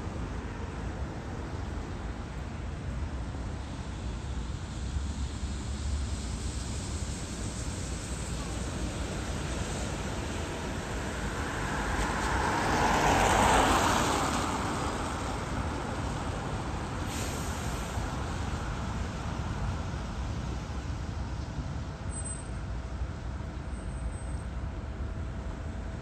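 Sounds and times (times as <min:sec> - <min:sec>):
vehicle passing with tyre hiss: 0:00.0 - 0:24.6
traffic rumble on wet roads: 0:00.0 - 0:26.0.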